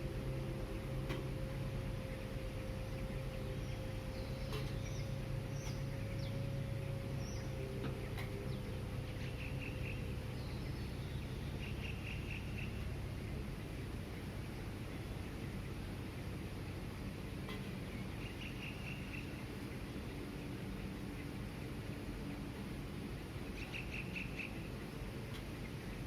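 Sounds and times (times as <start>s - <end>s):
distant city traffic rumble: 0.0s - 26.0s
birds chirping: 2.0s - 16.4s, 17.4s - 26.0s.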